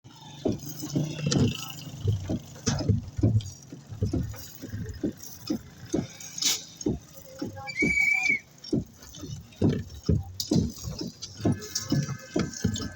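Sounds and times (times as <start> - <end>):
knocking and clattering: 0.1 - 12.9
low steady rumble: 0.1 - 12.9.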